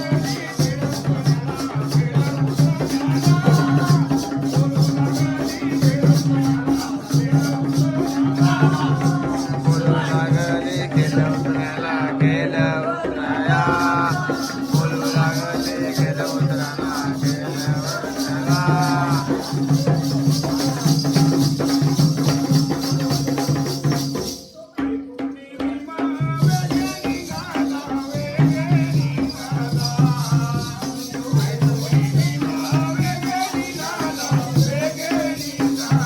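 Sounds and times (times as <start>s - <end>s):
person singing: 0.0s - 23.6s, 24.5s - 36.0s
jingling percussion: 0.0s - 36.0s.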